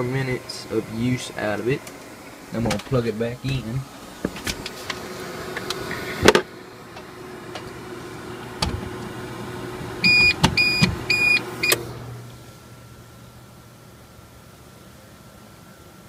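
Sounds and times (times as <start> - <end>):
power supply humming: 0.0 - 14.6.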